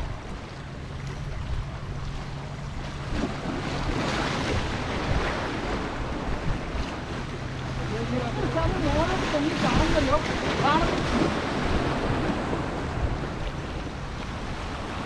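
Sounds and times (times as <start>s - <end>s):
waves breaking on rocks: 0.0s - 15.0s
wind buffeting microphone: 0.0s - 15.0s.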